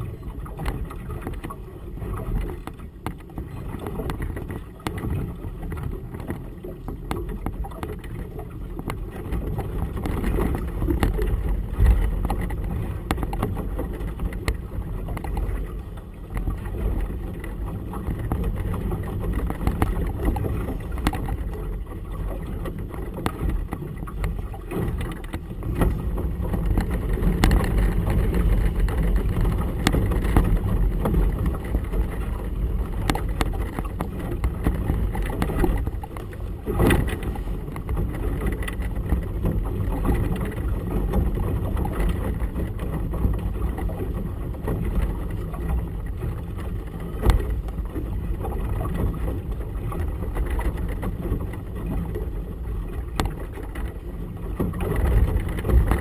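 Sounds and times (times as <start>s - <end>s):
choppy water around boat: 0.0s - 56.0s
wind rumble: 0.0s - 56.0s.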